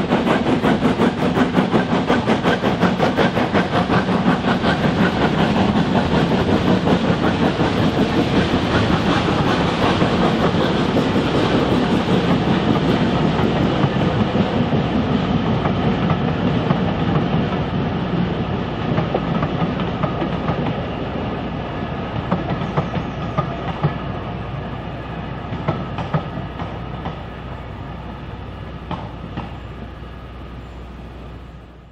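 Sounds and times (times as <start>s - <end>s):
train wheels clicking over rail joints: 0.0s - 30.8s.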